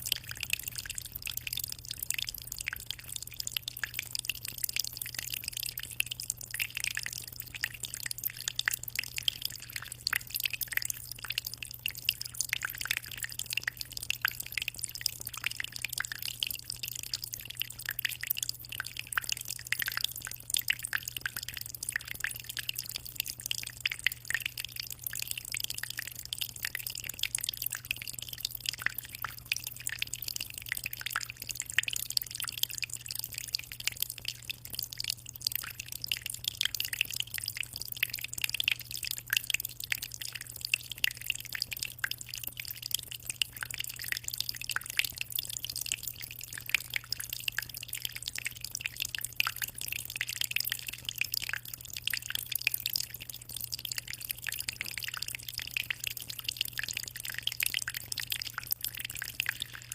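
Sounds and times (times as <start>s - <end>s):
aquarium water trickling: 0.0s - 59.9s
low steady hum: 0.0s - 59.9s.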